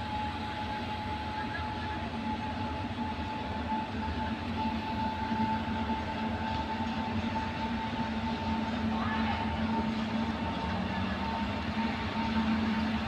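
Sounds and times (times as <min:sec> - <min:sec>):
electric locomotive whine: 0:00.0 - 0:13.0
wheels rumbling on rail: 0:00.0 - 0:13.0.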